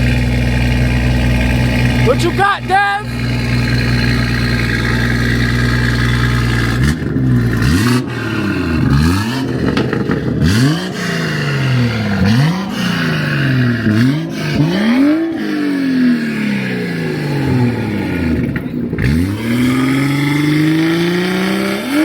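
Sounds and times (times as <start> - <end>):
car engine idling: 0.0 - 22.0
engine revving: 0.0 - 22.0.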